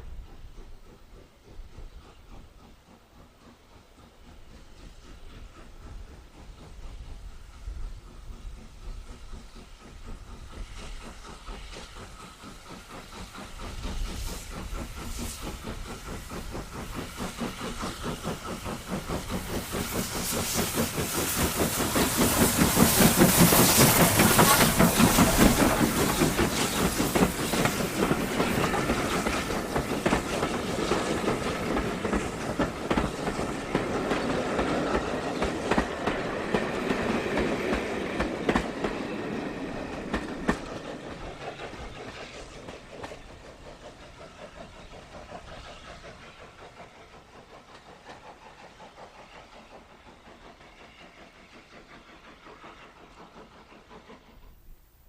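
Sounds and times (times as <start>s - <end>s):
steam locomotive exhaust beat: 0.0s - 55.0s.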